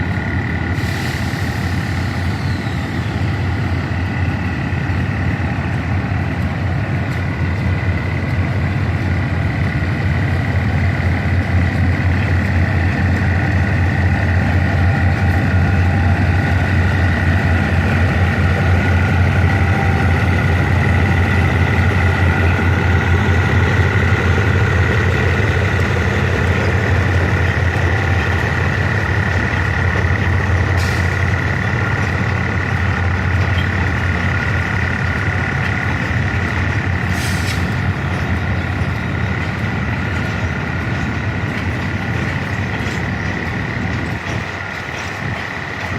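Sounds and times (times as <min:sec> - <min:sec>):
train low rumble: 0:00.0 - 0:45.9.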